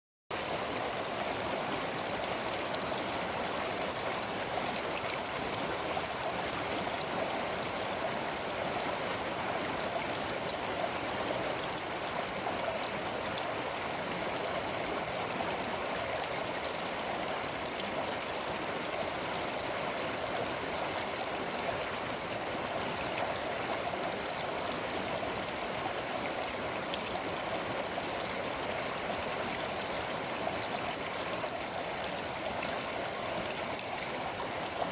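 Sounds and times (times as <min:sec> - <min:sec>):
river rushing over rocks: 0:00.3 - 0:34.9.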